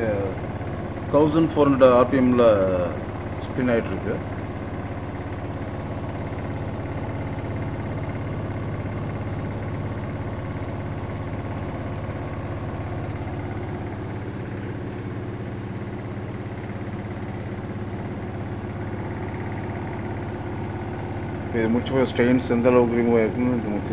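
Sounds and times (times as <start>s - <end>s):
washing machine spinning: 0.0s - 23.9s.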